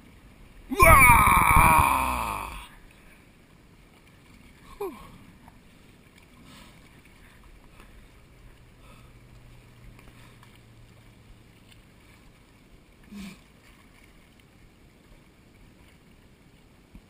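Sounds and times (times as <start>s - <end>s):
faint waterside background: 0.0s - 17.0s
low steady hum: 0.0s - 17.0s.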